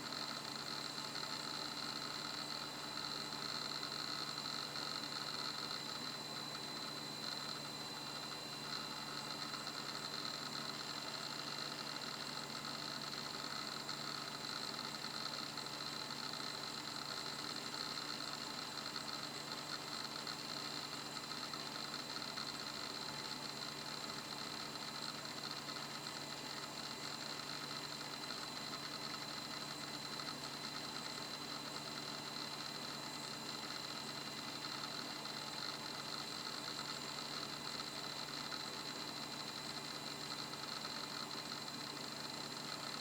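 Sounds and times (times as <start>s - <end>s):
hard disk drive whine: 0.0s - 43.0s.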